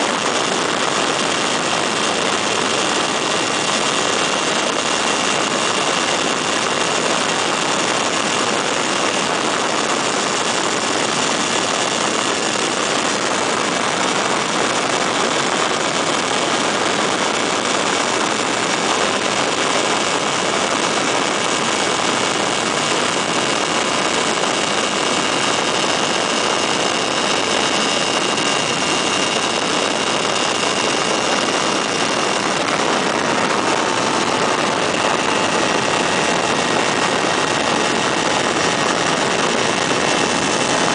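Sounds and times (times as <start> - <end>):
rush of air: 0.0 - 40.9
ultralight engine and propeller: 0.0 - 40.9.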